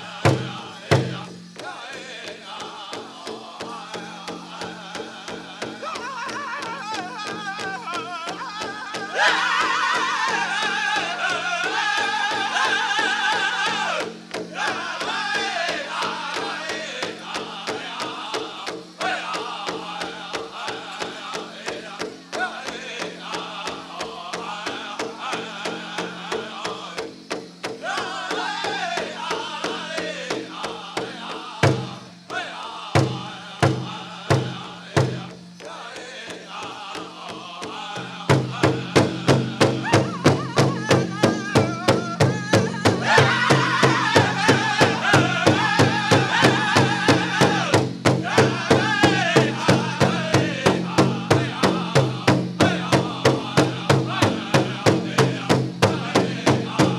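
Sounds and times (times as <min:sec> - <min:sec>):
drum group singing: 0:00.0 - 0:56.9
heavy hard drum beats: 0:00.0 - 0:56.9.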